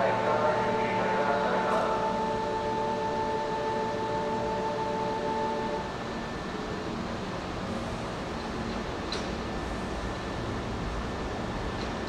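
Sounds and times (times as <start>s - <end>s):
electric train rumbling hiss: 0.0s - 12.0s.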